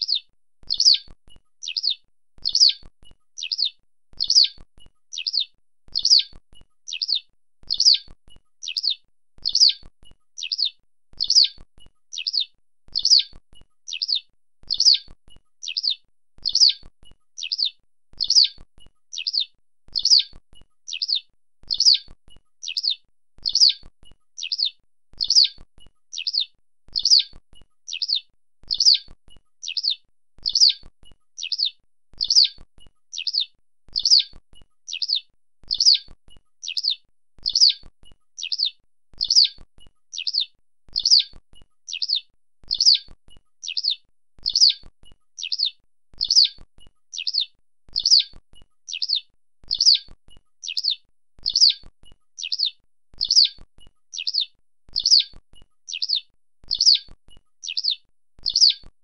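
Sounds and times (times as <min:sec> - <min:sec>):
skylark chirping: 0:00.0 - 0:58.9.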